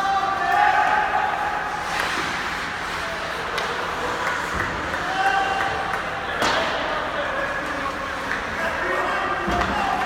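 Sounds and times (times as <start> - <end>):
skates on ice: 1.4 - 10.0.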